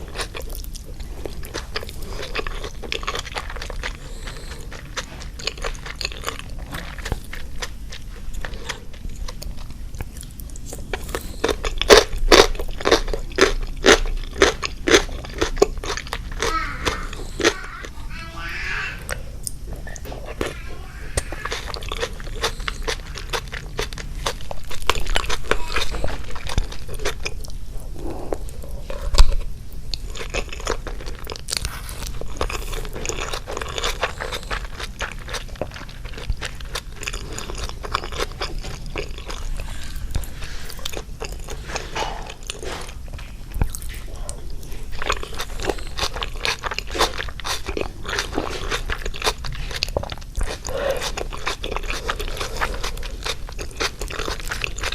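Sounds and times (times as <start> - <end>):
crunching and chewing: 0.0 - 18.0, 19.0 - 54.9.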